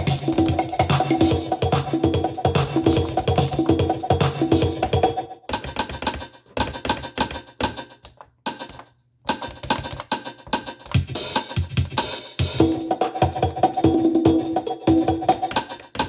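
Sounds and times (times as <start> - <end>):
drum machine beat: 0.0 - 16.0.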